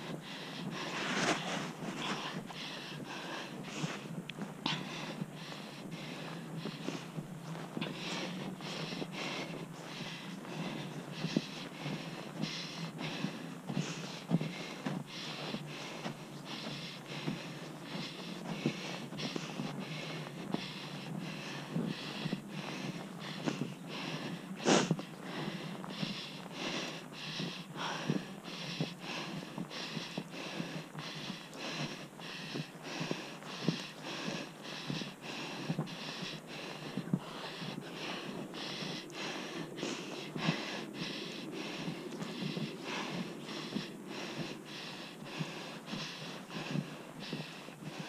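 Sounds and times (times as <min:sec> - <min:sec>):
footsteps crunching in snow: 0:00.0 - 0:48.0.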